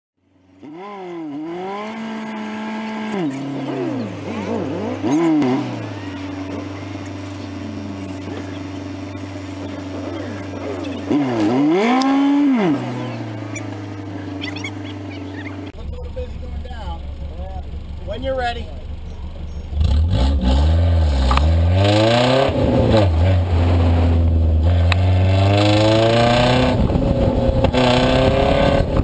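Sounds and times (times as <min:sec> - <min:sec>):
pickup engine idling and revving: 0:00.2 - 0:29.0.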